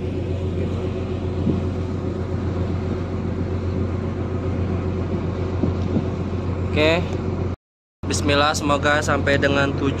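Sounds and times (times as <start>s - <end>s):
ship engines droning: 0.0s - 10.0s.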